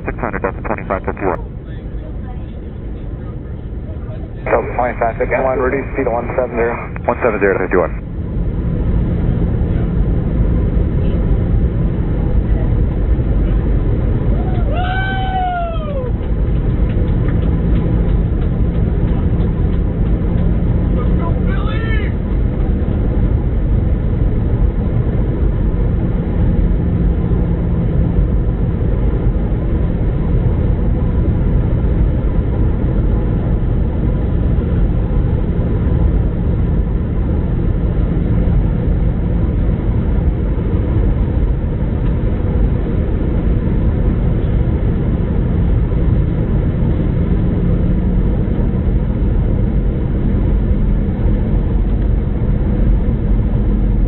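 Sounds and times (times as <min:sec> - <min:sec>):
constant low hum: 0:00.0 - 0:54.0
plane engines and airflow drone: 0:00.0 - 0:54.0.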